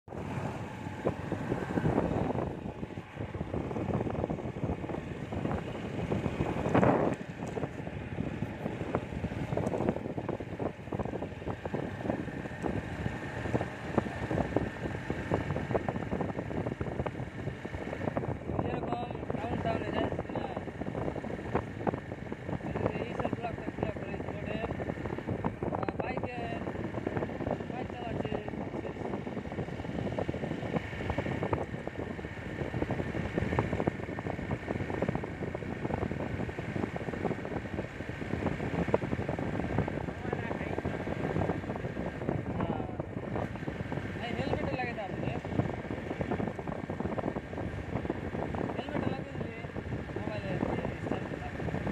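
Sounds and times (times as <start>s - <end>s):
motorcycle ride rush: 0.0s - 51.9s
wind buffeting microphone: 0.0s - 51.9s.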